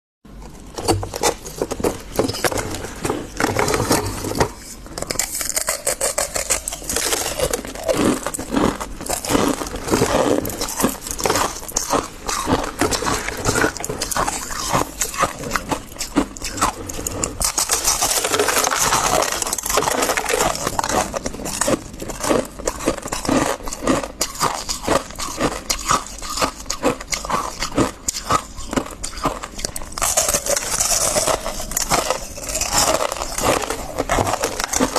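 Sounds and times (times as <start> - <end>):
frost crunching and crackling: 0.6 - 34.9.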